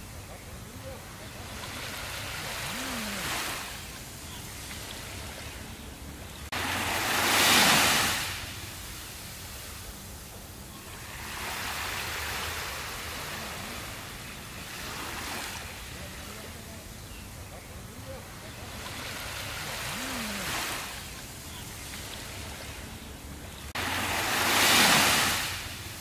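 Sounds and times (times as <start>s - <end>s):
waves washing up a beach: 0.0s - 26.0s.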